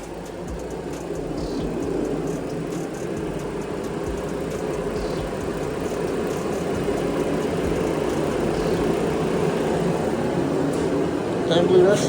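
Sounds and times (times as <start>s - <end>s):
gas heater running: 0.0s - 12.0s.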